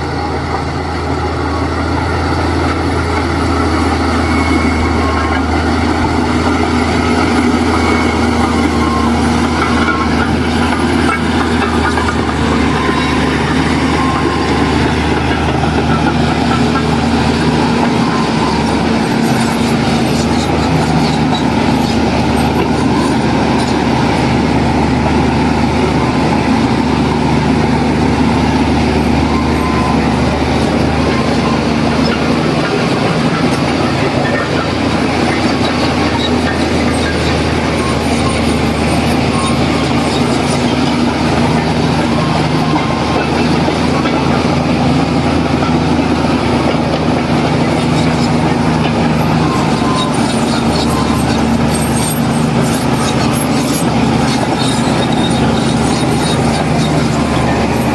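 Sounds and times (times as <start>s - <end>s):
heavy diesel engine under load: 0.0s - 57.9s.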